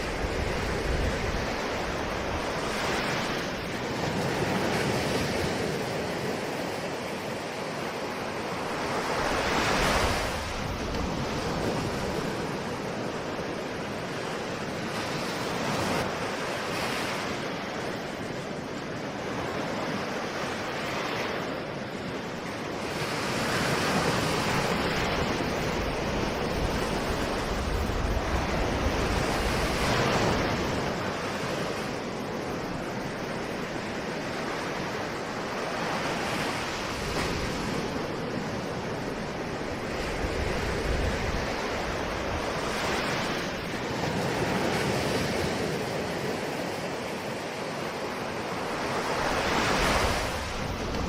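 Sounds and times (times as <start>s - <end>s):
ocean waves breaking on shore: 0.0s - 51.0s
wind noise on microphone: 0.0s - 51.0s.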